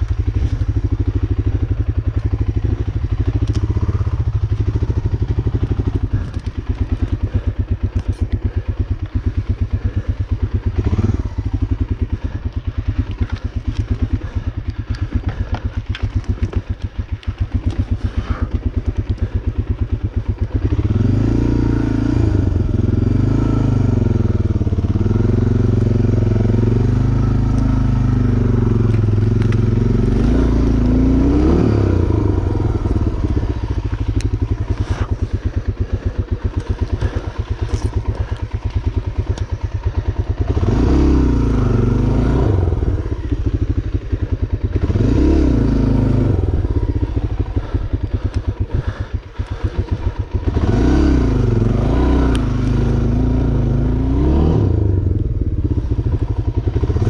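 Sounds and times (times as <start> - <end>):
vehicle engine chugging and revving: 0.0 - 57.0.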